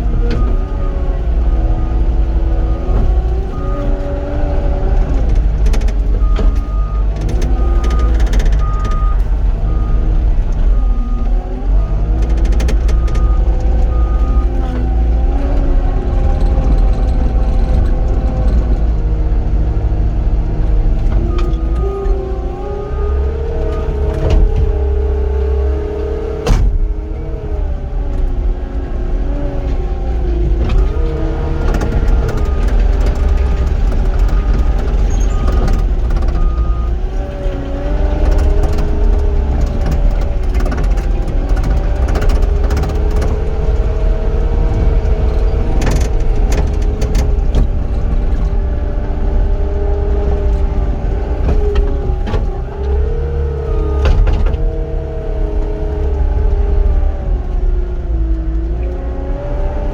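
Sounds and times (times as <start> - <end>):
loader diesel engine running: 0.0 - 59.9.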